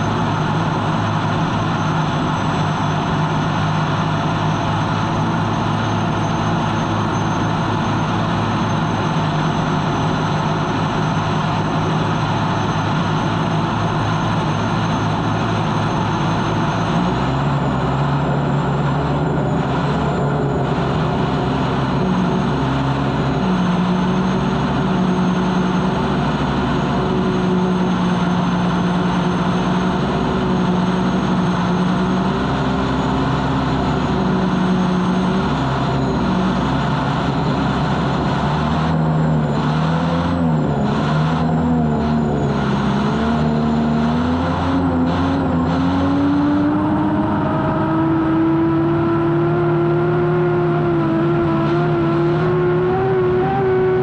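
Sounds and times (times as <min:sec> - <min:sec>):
turbine engine drone with whine: 0:00.0 - 0:54.0.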